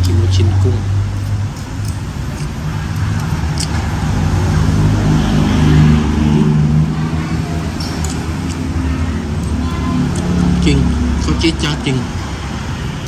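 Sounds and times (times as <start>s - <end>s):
vehicle engine passing by: 2.5s - 13.0s.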